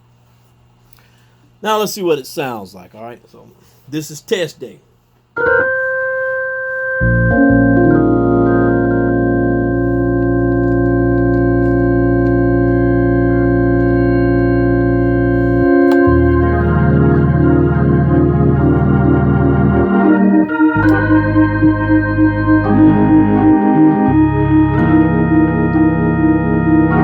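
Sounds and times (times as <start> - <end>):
organ chords through rotating speaker: 5.4 - 27.0.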